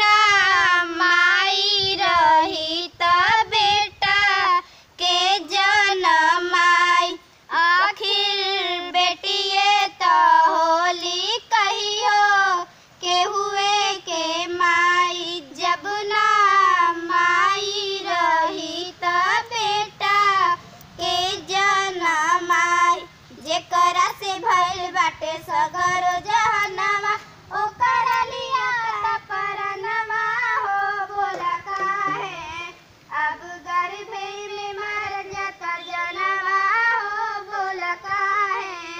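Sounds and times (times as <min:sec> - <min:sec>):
girl singing: 0:00.0 - 0:38.9.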